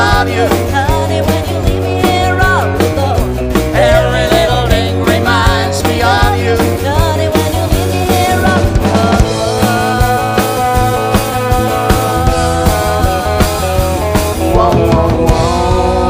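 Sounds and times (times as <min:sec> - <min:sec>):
woman singing: 0:00.0 - 0:13.8
live country band playing: 0:00.0 - 0:16.0.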